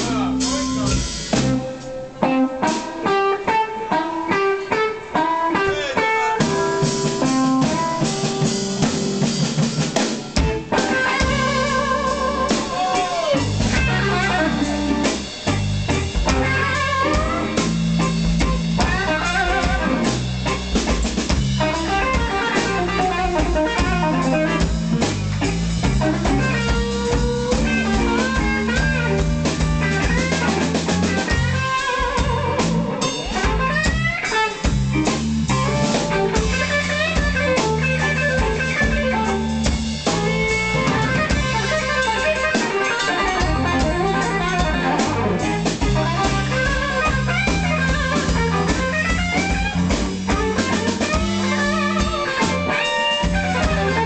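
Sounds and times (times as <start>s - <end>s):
blues band playing: 0.0s - 54.0s
lead guitar line: 0.0s - 54.0s.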